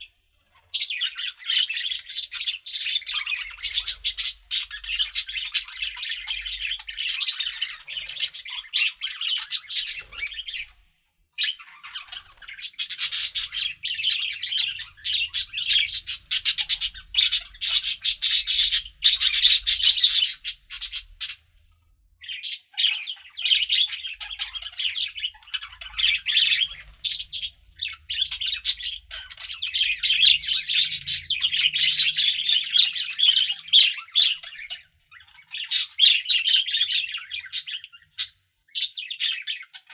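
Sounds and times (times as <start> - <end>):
budgerigars chirping and chattering: 0.0 - 10.8, 11.4 - 39.9.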